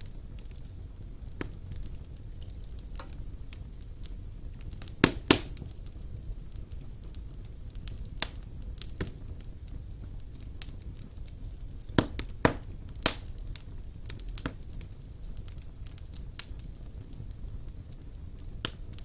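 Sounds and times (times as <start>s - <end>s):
loud fire pops: 0.0s - 19.0s
wood fire crackling: 0.0s - 19.0s.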